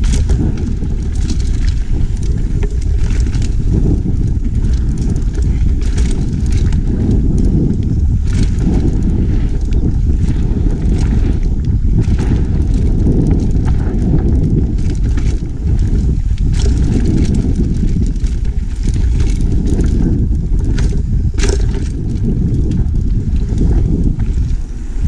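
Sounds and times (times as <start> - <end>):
bike rattling over bumps: 0.0 - 25.0
bike tyres rumbling on dirt: 0.0 - 25.0
wind buffeting microphone: 0.0 - 25.0.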